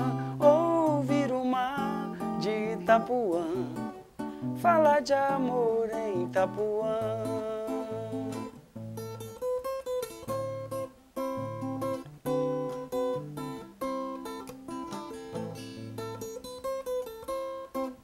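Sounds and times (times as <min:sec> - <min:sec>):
acoustic guitar bossa nova: 0:00.0 - 0:18.0.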